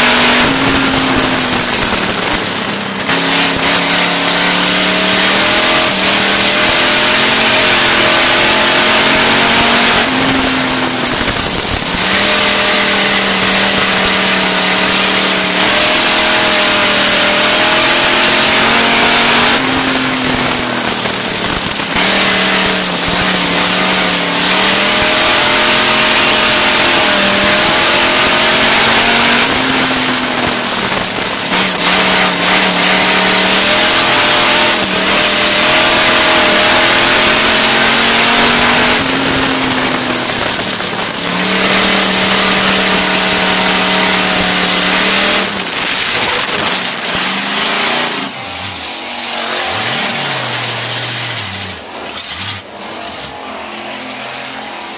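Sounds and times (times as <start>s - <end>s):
loud steady rush: 0.0s - 54.9s
race car engine revving: 0.0s - 54.9s.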